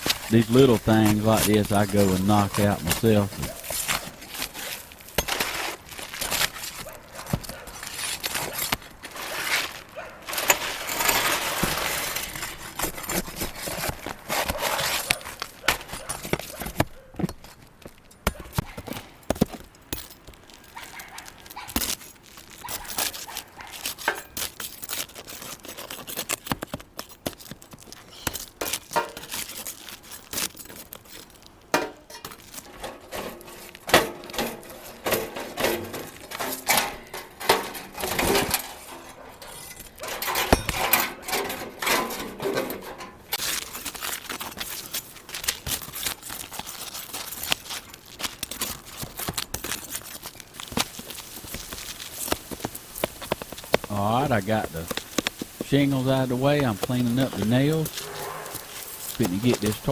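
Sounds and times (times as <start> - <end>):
roof shingles scraping: 0.0 - 59.9.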